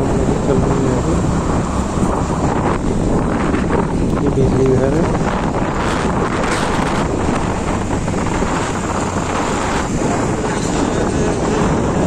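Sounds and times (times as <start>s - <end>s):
vehicle engine and road noise: 0.0s - 12.0s
wind rushing over microphone: 0.0s - 12.0s.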